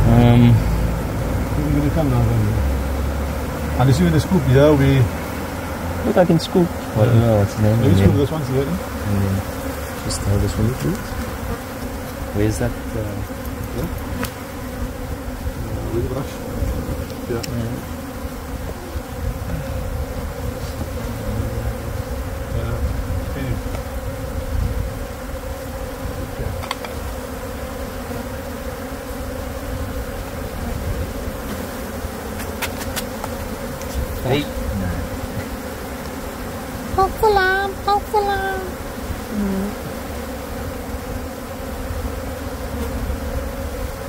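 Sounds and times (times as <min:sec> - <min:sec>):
bees buzzing: 0:00.0 - 0:44.0.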